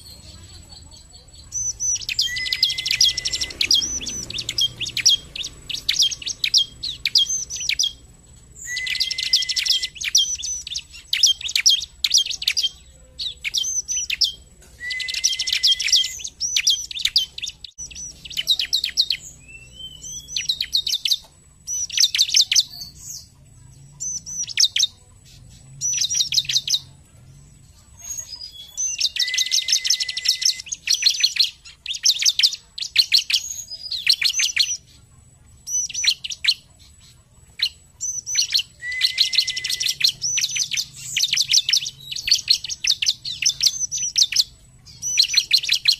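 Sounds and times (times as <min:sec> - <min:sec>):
bird trilling: 0:00.0 - 0:27.0, 0:28.0 - 0:35.0, 0:35.6 - 0:45.9
bird singing high chirps: 0:00.0 - 0:45.9.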